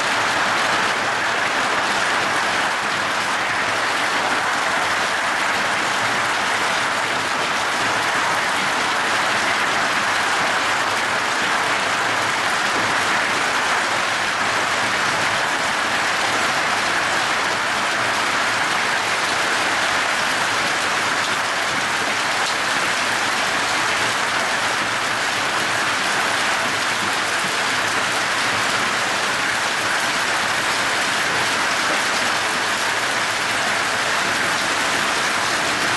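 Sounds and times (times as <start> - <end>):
hail and heavy rain: 0.0 - 35.9.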